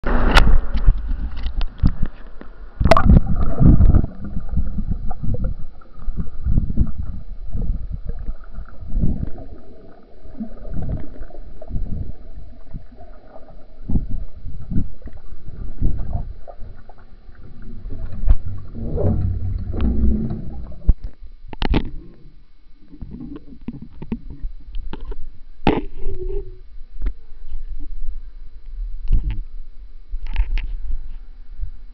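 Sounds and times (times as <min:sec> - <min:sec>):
muffled underwater sloshing: 0:00.0 - 0:31.9.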